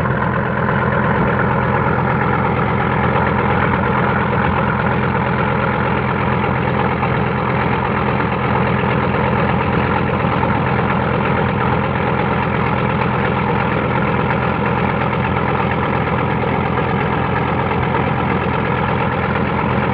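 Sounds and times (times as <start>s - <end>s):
boat engine droning: 0.0s - 19.9s.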